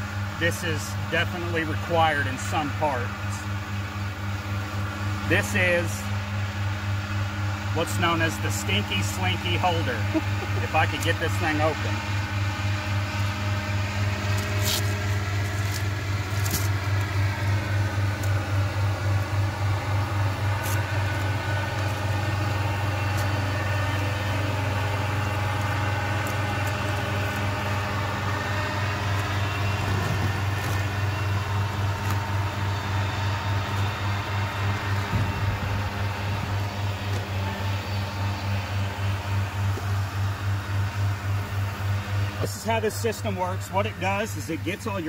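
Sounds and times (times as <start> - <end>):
machine hum pulsing: 0.0 - 45.0.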